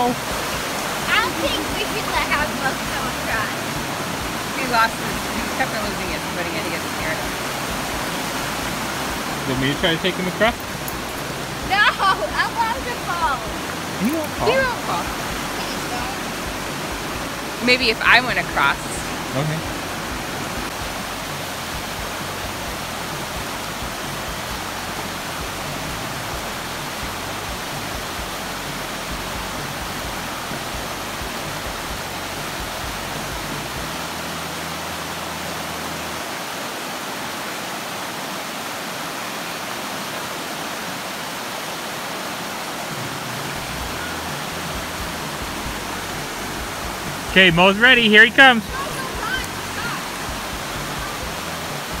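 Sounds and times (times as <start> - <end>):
water rushing over rocks: 0.0 - 52.0.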